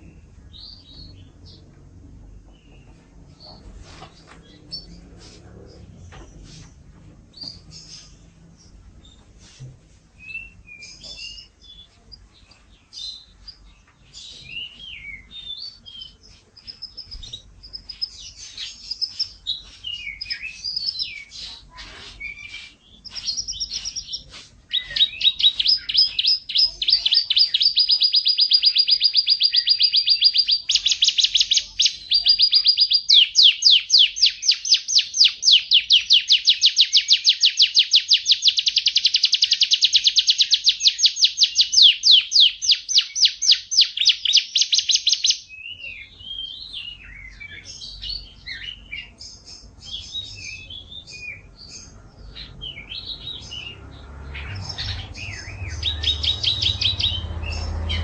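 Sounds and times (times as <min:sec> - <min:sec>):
canary singing: 0:00.0 - 0:09.4, 0:10.1 - 0:58.0.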